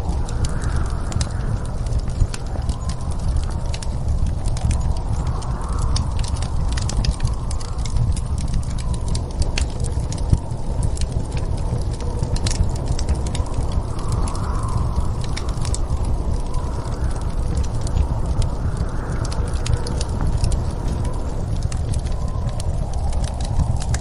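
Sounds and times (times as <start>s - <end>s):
fireplace crackling and popping: 0.0s - 24.0s
steady low rumble: 0.0s - 24.0s.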